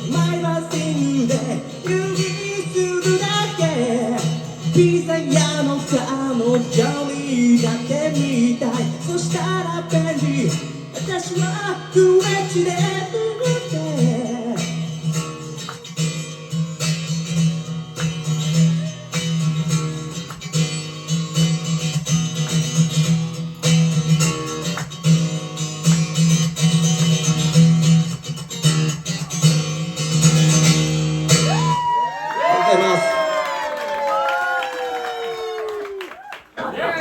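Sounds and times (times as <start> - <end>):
acoustic guitar strummed and picked: 0.0 - 32.2.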